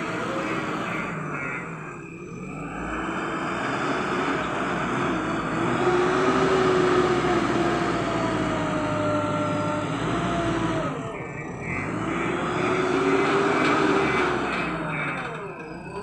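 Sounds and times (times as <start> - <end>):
diesel engine working hard: 0.0 - 16.0.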